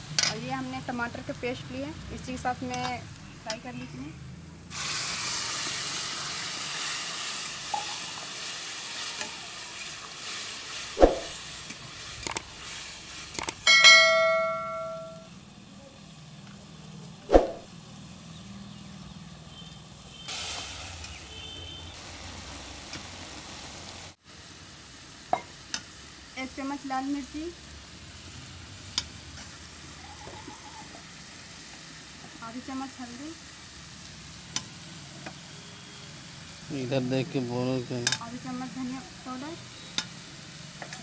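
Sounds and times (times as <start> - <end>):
masala sizzling in a pan: 0.0 - 41.0.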